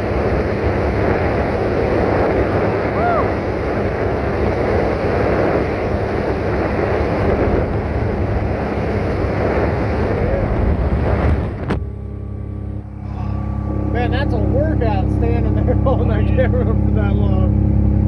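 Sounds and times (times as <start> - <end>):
wind buffeting microphone: 0.0 - 17.5
boat engine drone: 0.0 - 18.0.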